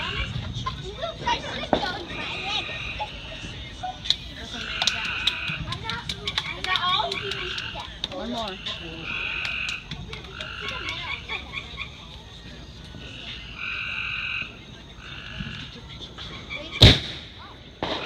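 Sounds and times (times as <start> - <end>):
frogs calling: 0.0 - 18.0.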